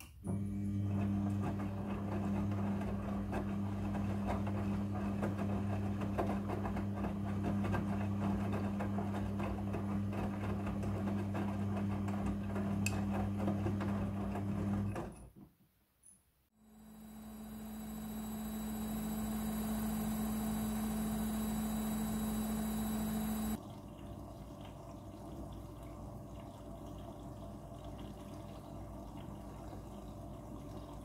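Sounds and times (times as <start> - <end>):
washing machine motor hum: 0.2 - 15.0, 16.6 - 31.0.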